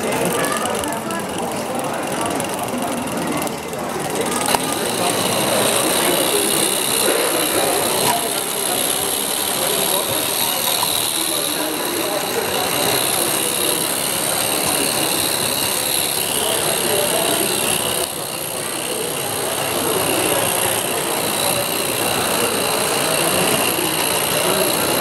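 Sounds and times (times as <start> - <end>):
steam locomotive hissing: 4.6 - 25.0.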